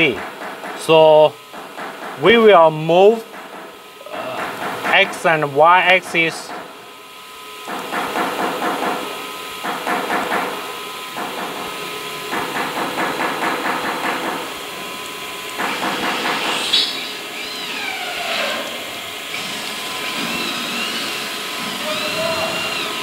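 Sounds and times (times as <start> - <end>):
cnc router axis drive clattering: 0.0 - 23.0.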